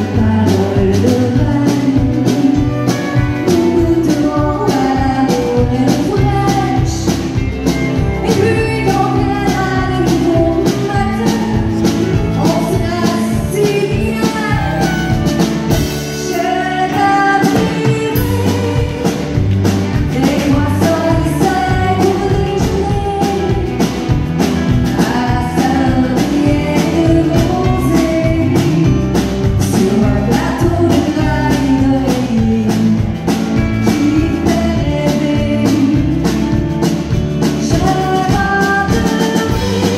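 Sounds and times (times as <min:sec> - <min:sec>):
drum kit beat: 0:00.0 - 0:39.9
keyboard: 0:00.0 - 0:39.9
woman singing: 0:00.0 - 0:39.9.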